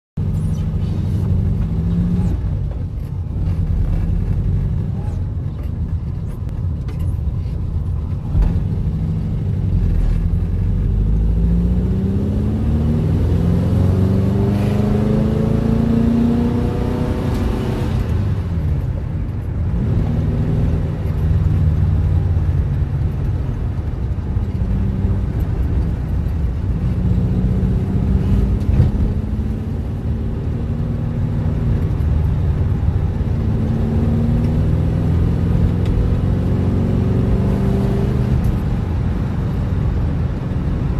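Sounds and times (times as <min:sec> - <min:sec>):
car engine accelerating: 0:00.2 - 0:40.9.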